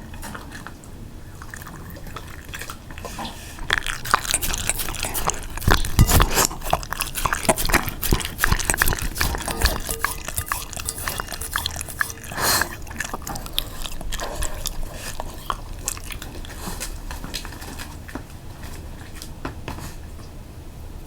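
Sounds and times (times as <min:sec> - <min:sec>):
dog chewing: 0:00.0 - 0:20.1.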